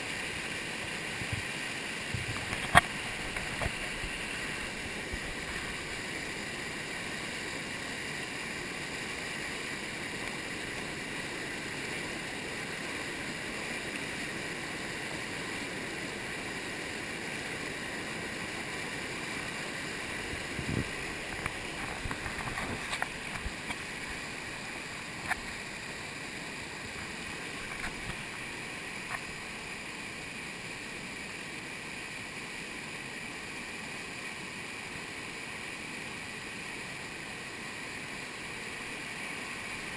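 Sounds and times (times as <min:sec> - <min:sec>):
whitewater rushing over falls: 0:00.0 - 0:39.9.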